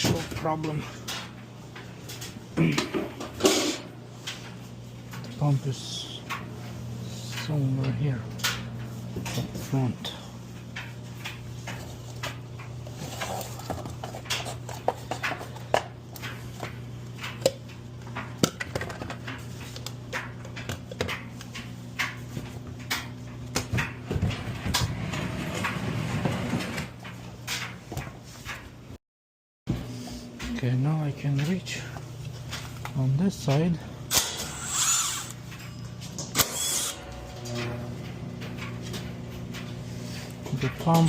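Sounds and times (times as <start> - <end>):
steady low hum: 0.0 - 29.0, 29.7 - 41.0.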